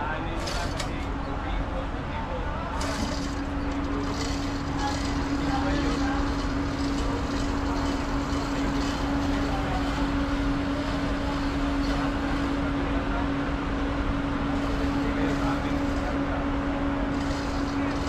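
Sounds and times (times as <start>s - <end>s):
ship machinery humming: 0.0s - 18.0s.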